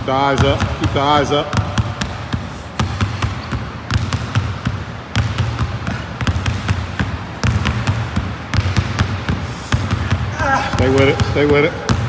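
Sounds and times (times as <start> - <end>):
basketballs bouncing on hardwood: 0.0 - 12.0.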